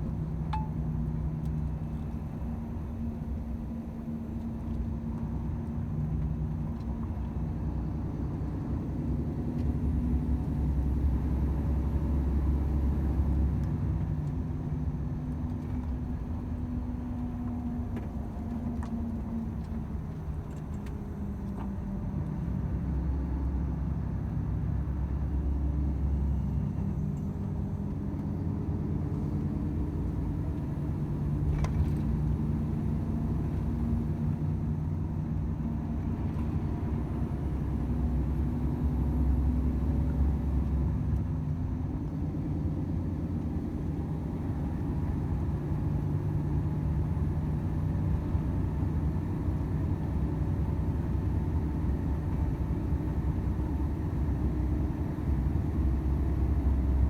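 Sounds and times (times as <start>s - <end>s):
road rumble: 0.0s - 57.0s
truck diesel engine droning: 0.0s - 57.0s.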